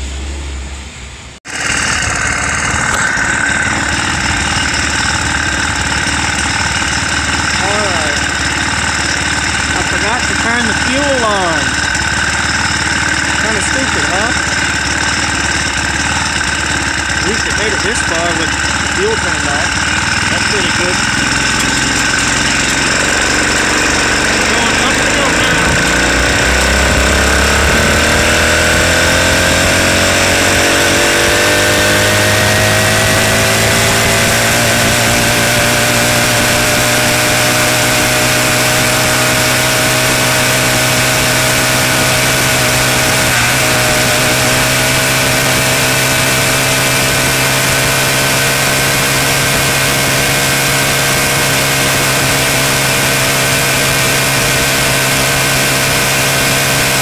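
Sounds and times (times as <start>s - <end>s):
motorized bicycle engine running: 1.5s - 57.0s.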